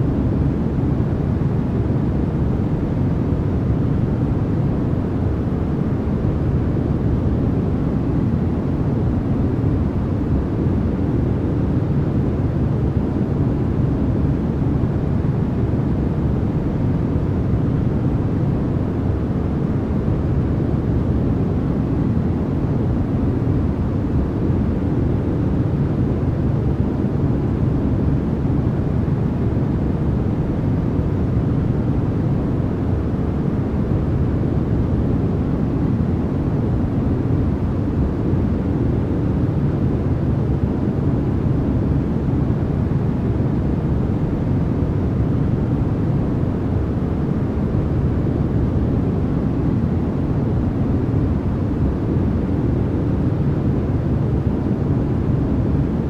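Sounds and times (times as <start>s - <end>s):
low white noise rumble: 0.0s - 56.0s.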